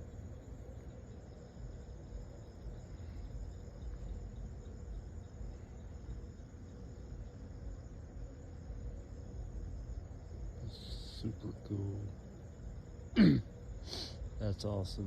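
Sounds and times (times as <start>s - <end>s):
crickets chirring: 0.0s - 15.0s
low steady rumble: 0.0s - 15.0s.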